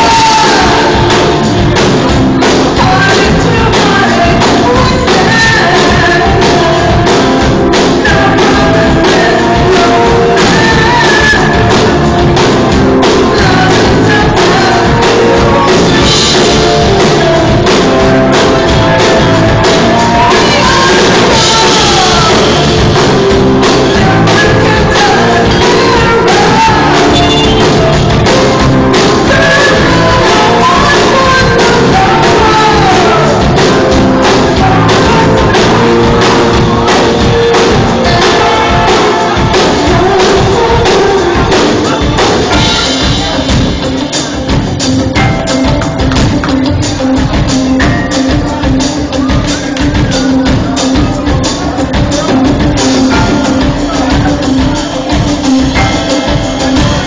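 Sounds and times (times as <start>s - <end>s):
person singing karaoke: 0.0s - 57.0s
rock backing music: 0.0s - 57.0s.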